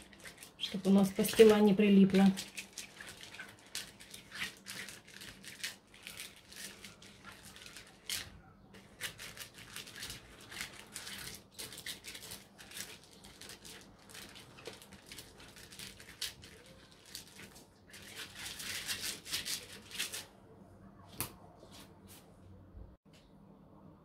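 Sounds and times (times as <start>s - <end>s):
pastry brush scratching plastic trays: 0.0s - 20.3s.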